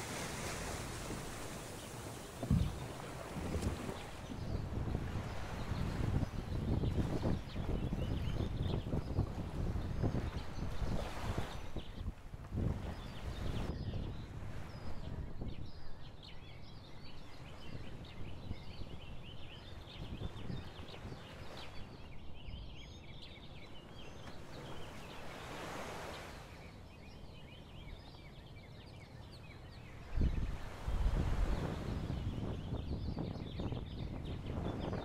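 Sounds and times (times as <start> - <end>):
wind on microphone: 0.0 - 23.2, 30.0 - 35.0
birds chirping in chorus: 0.0 - 35.0.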